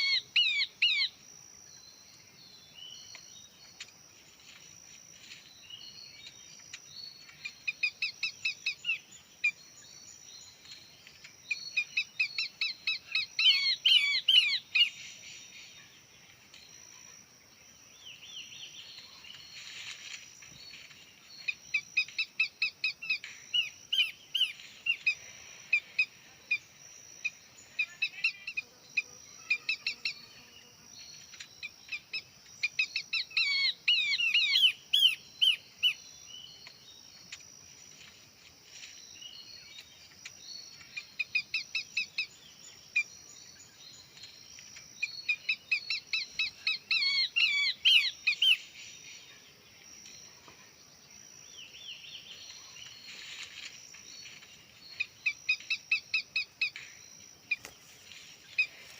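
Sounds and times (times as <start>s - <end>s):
bird chirping: 0.0s - 4.6s, 5.2s - 58.9s.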